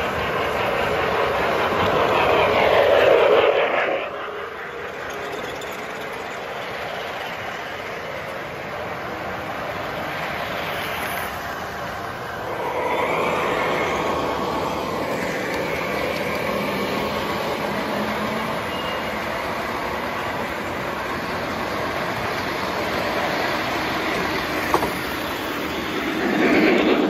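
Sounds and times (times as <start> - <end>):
toy electric trains rolling: 0.0 - 27.0.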